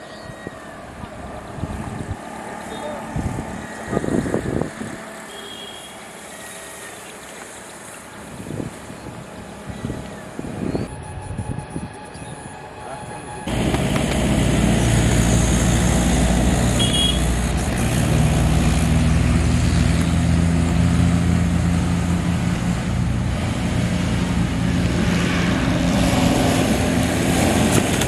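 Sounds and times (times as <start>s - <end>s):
engine running: 0.5s - 12.0s, 12.8s - 28.0s.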